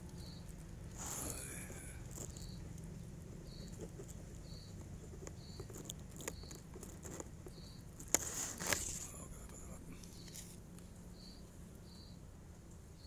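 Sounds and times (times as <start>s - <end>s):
dry grass and leaves rustling: 0.0s - 11.7s.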